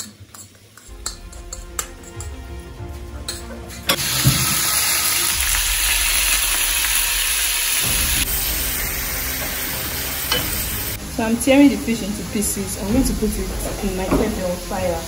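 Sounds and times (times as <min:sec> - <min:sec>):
food sizzling in hot oil: 0:00.0 - 0:02.9, 0:03.8 - 0:15.0.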